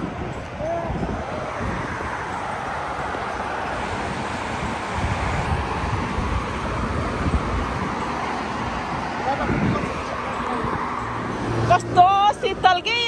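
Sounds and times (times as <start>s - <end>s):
highway traffic road noise: 0.0s - 13.0s
wind buffeting microphone: 0.0s - 13.0s.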